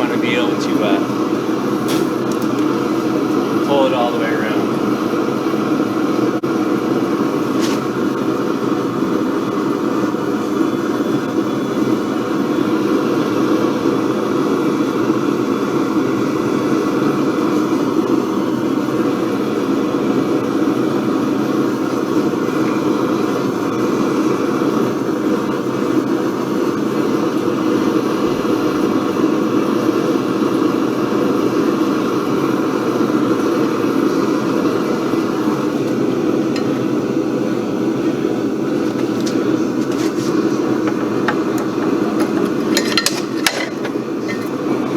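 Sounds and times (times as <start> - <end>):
gas torch flame roaring: 0.0 - 44.9.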